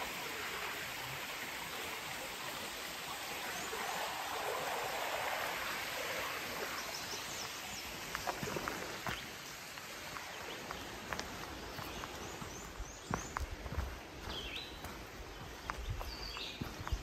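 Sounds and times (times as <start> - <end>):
river rushing over shallows: 0.0 - 17.0.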